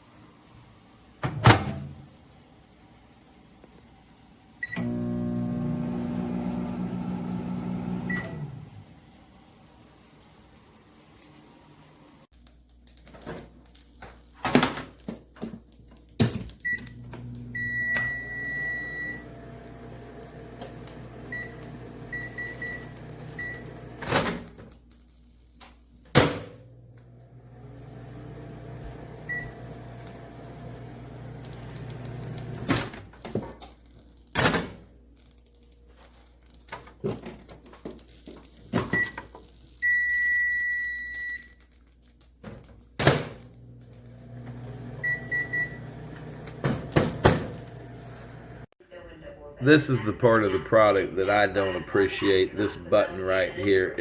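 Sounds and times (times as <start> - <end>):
microwave humming: 0.1 - 12.2, 14.4 - 24.9, 25.6 - 41.6, 42.3 - 48.7.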